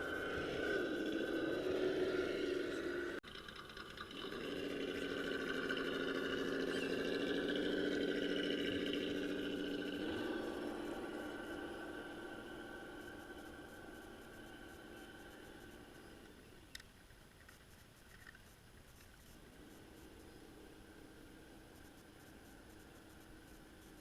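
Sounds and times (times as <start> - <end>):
electric motor and gears whining: 0.0 - 16.8, 18.9 - 24.0.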